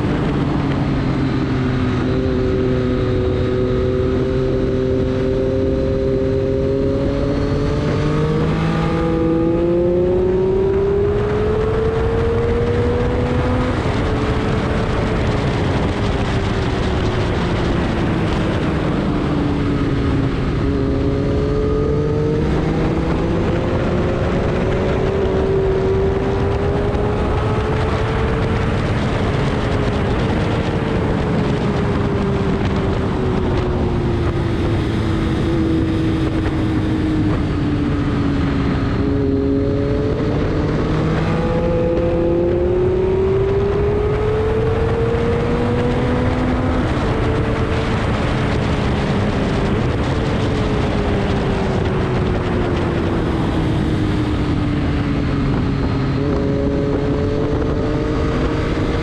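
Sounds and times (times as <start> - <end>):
race car engine: 0.0 - 59.0
wind and road noise: 0.0 - 59.0.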